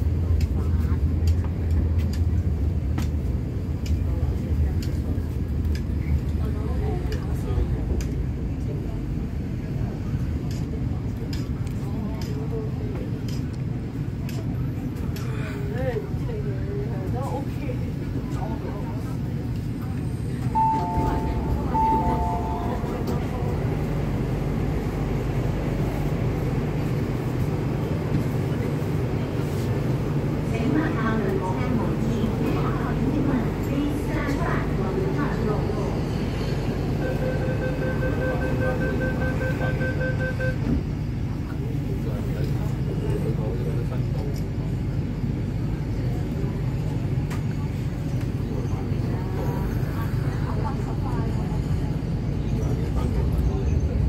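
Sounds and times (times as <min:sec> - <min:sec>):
train rumbling through tunnel: 0:00.0 - 0:54.0.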